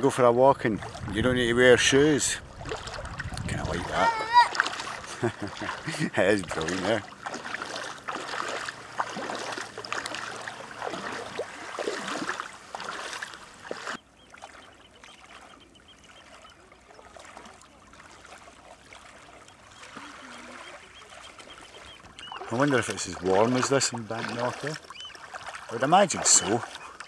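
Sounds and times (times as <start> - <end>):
trickling water: 0.2 - 27.0
bare feet splashing in shallow water: 0.5 - 27.0.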